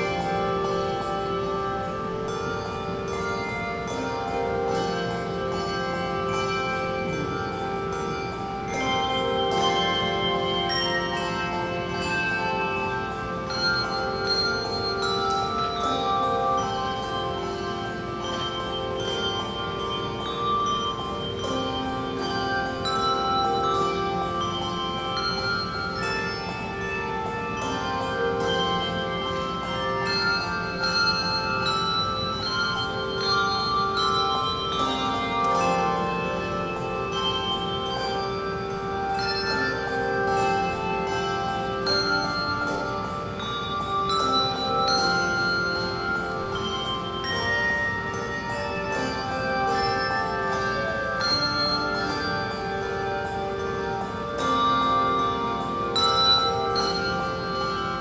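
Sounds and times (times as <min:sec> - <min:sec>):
handbell choir playing: 0:00.0 - 0:58.0.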